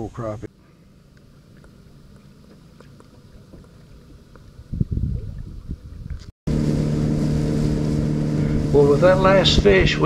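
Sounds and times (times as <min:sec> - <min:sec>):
low irregular rumbling: 0:00.8 - 0:10.0.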